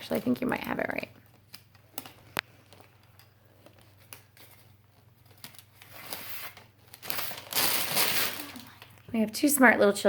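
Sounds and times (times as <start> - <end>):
plastic packaging rustling: 0.0 - 9.1.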